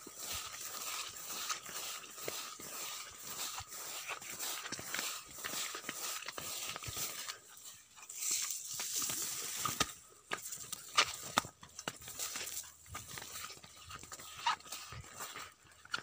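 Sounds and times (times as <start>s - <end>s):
plants rustling against phone: 0.0s - 16.0s.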